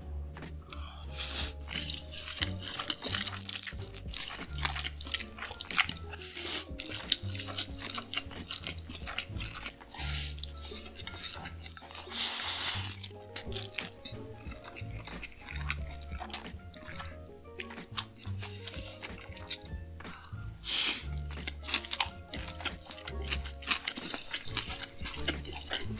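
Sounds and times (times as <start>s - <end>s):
background music with bass line: 0.0s - 25.9s
person slurping and chewing noodles: 0.6s - 25.9s.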